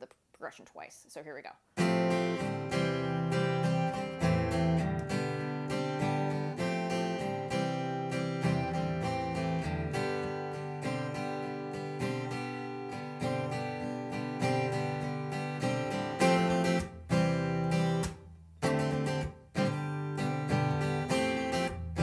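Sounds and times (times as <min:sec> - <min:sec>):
acoustic guitar strumming chords: 0:01.8 - 0:22.0.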